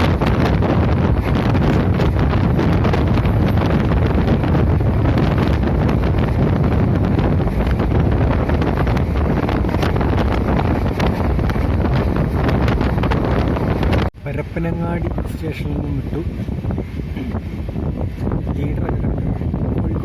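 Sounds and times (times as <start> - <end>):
train rumbling along track: 0.0 - 20.0
wind buffeting microphone: 0.0 - 20.0.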